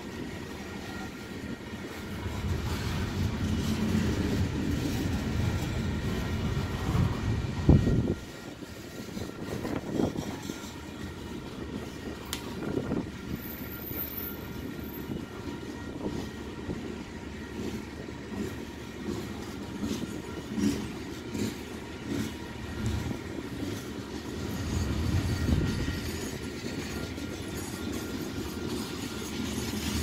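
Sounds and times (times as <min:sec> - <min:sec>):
train cars clunking: 0:00.0 - 0:30.0
train wheels rumbling on rail: 0:00.0 - 0:30.0.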